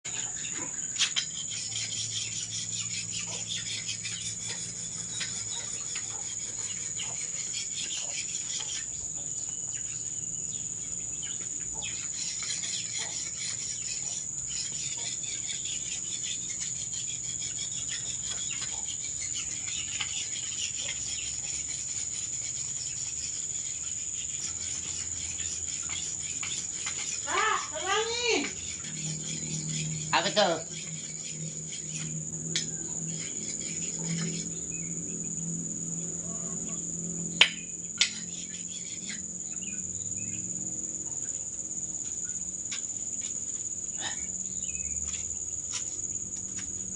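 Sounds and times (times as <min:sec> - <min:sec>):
high-pitched insect drone: 0:00.1 - 0:46.9.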